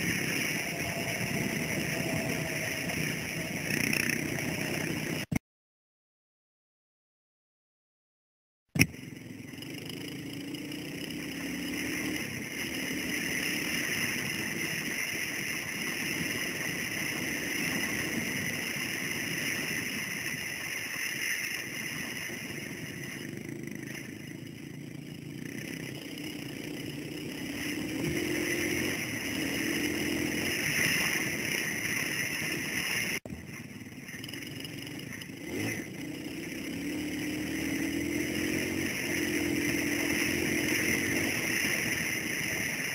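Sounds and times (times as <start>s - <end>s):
dirt bike engine revving: 0.0s - 5.4s, 8.9s - 33.3s, 34.1s - 42.9s.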